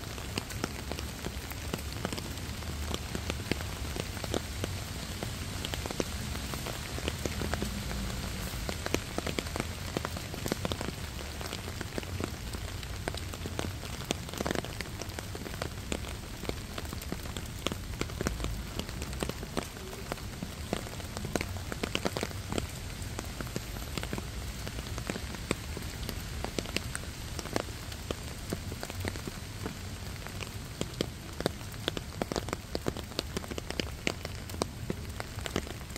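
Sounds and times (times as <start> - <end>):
rain hissing: 0.0 - 35.9
raindrops striking leaves: 0.0 - 35.9.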